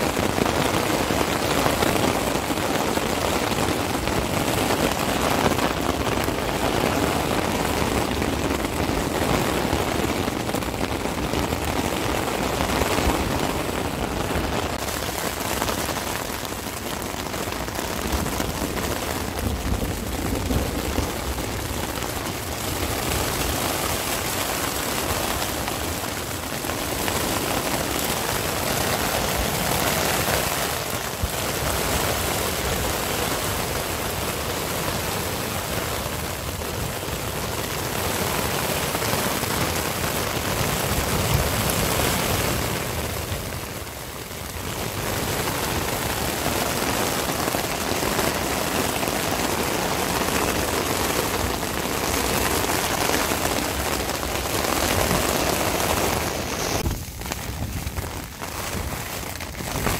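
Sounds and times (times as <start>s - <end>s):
rain and wind on tent: 0.0s - 59.9s.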